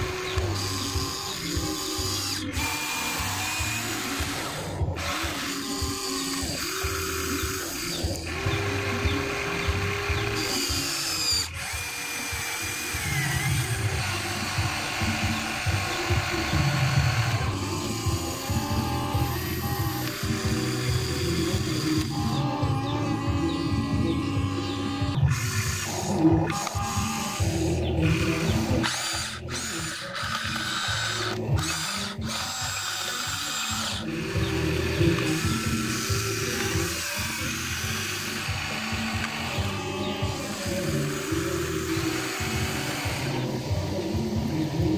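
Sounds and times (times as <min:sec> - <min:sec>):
electric motors whirring: 0:00.0 - 0:44.9.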